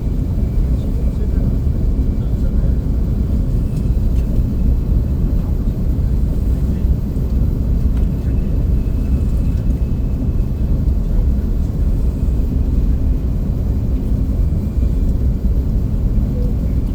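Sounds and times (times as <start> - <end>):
train rumble inside cabin: 0.0 - 16.9.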